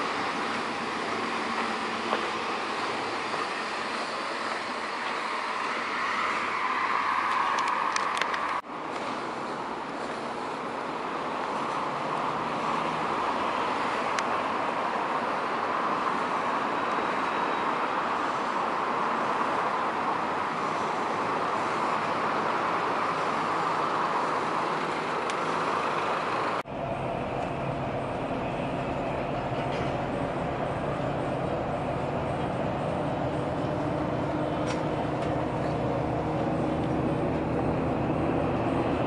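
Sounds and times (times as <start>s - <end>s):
bus engine rumble from inside: 0.0s - 39.0s
street traffic noise: 0.0s - 39.0s.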